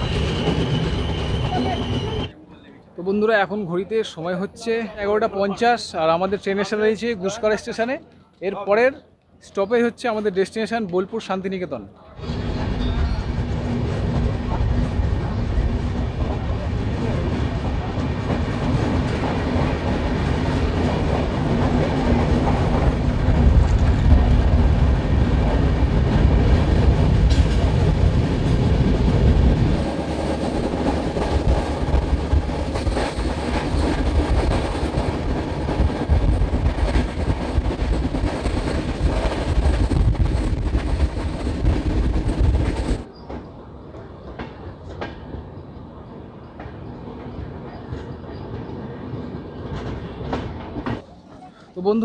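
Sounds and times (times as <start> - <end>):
train wheels rumbling on rails: 0.0 - 2.4, 12.2 - 52.0.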